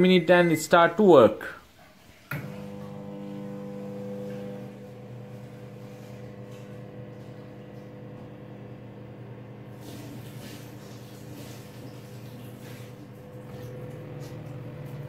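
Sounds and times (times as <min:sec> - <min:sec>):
microwave humming: 0:02.3 - 0:15.0.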